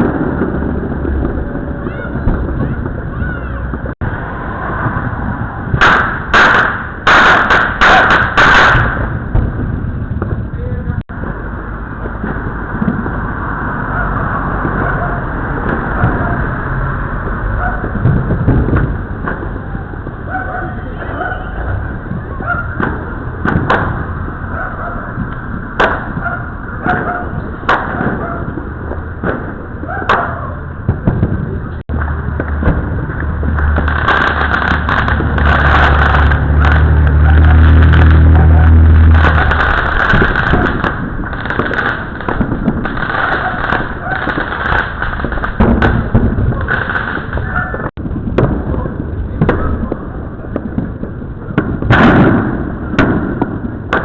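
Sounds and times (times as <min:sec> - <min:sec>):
firework bangs: 0:00.0 - 0:54.0
low background rumble: 0:08.8 - 0:54.0.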